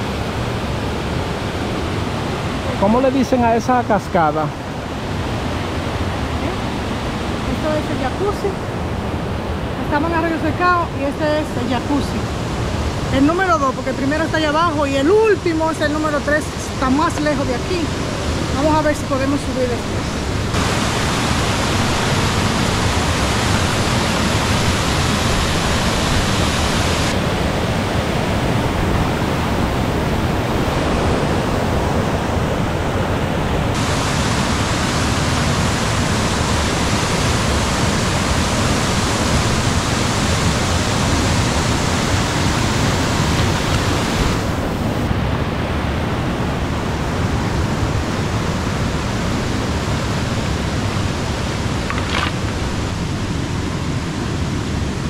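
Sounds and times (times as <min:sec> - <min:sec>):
rush of small waterfall: 0:00.0 - 0:55.0.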